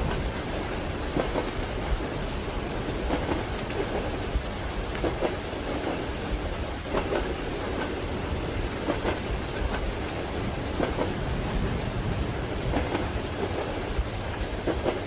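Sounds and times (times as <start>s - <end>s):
steady rain: 0.0s - 15.0s
train rumbling: 0.0s - 15.0s
train wheels clacking over rail joints: 0.0s - 15.0s.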